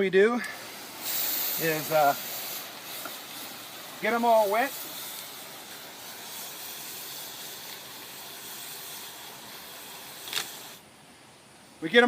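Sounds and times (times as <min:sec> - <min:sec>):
hose spraying water on screens: 0:00.4 - 0:10.8.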